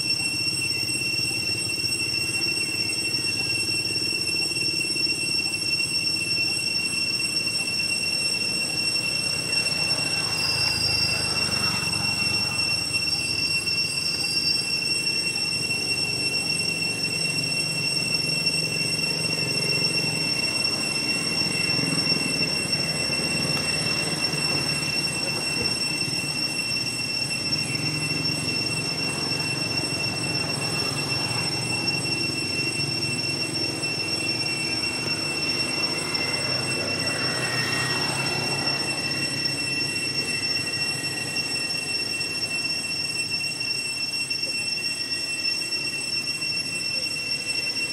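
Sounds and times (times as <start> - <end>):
high-pitched whine: 0.0 - 47.9.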